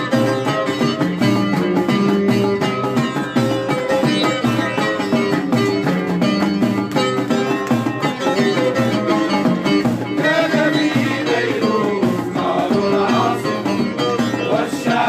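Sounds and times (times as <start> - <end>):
plucked string instruments: 0.0 - 15.0.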